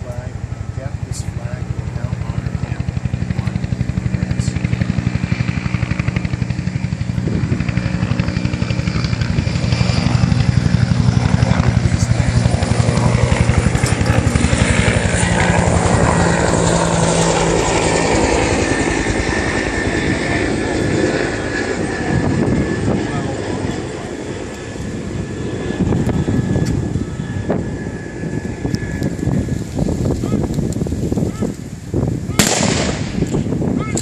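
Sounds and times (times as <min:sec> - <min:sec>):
helicopter rotor blades beating: 0:00.0 - 0:34.0.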